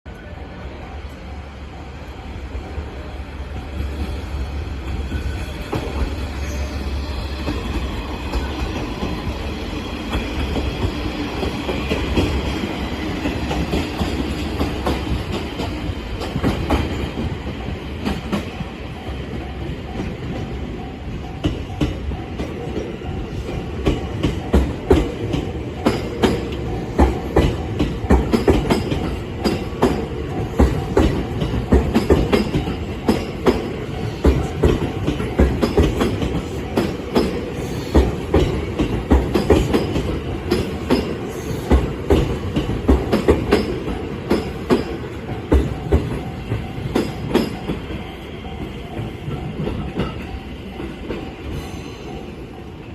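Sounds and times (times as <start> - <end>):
train rumbling: 0.1 - 52.9
train wheels clacking on rail joints: 7.3 - 52.8.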